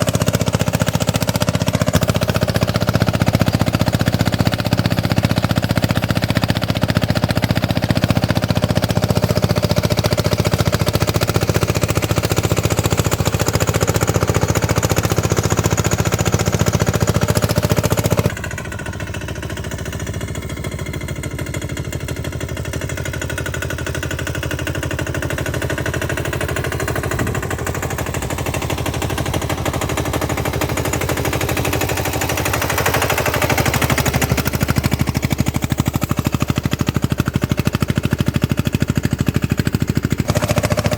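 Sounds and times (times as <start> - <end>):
tractor engine thudding: 0.0 - 36.6, 39.8 - 40.9.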